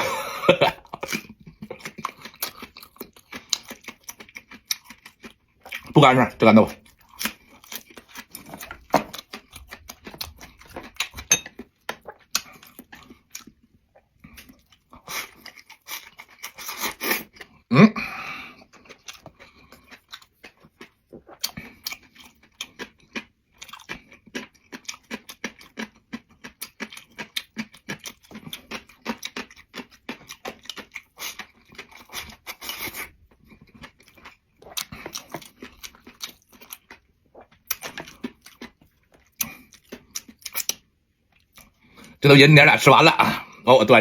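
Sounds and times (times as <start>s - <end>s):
chewing crunchy food: 0.0s - 17.7s, 18.5s - 42.2s.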